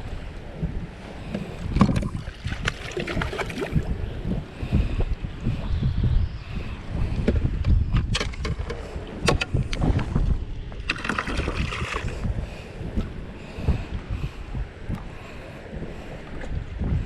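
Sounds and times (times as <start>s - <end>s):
water moving against boat: 0.0s - 17.0s
wind rumbling on microphone: 0.0s - 17.0s.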